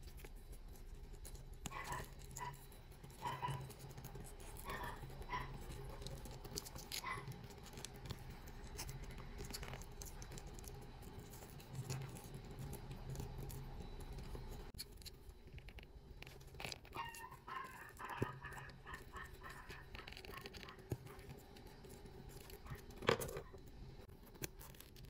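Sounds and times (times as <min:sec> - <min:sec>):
low steady hum: 0:00.0 - 0:25.0
toy doll handling scratches and clicks: 0:00.0 - 0:25.0.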